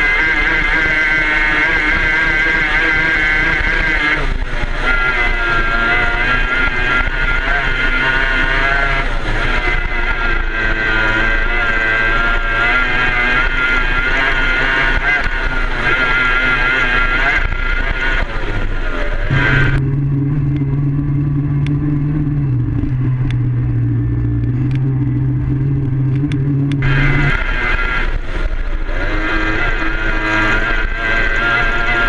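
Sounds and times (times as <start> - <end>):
outboard racing engine at full speed: 0.0 - 32.0.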